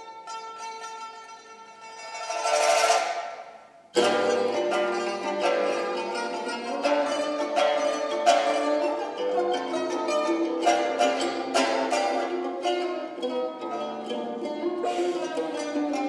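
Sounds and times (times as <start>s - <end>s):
plucked string duet: 0.0s - 16.0s.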